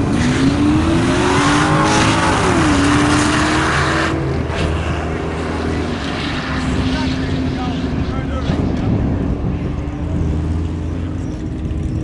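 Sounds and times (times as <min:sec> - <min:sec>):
race cars accelerating: 0:00.0 - 0:12.0.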